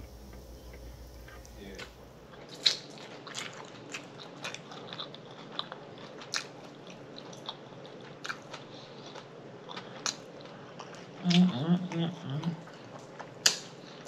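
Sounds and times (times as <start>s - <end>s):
close chewing with crunches: 0.2s - 14.0s.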